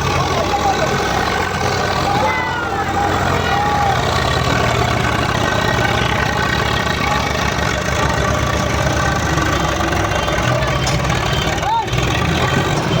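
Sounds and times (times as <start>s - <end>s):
diesel engine chugging at low revs: 0.0s - 13.0s.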